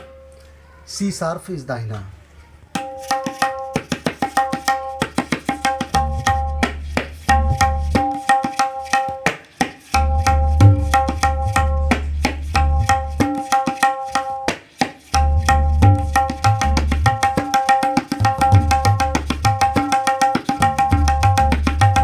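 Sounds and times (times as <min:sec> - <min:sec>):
tabla ringing strokes: 0:02.7 - 0:22.0.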